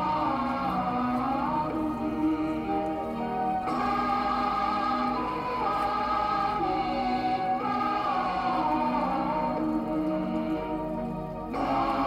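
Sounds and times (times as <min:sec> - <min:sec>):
slow music with long held notes: 0:00.0 - 0:12.0.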